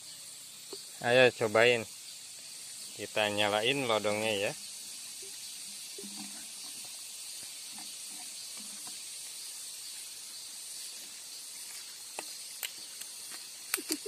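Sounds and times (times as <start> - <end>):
insect chorus drone: 0.0 - 14.0.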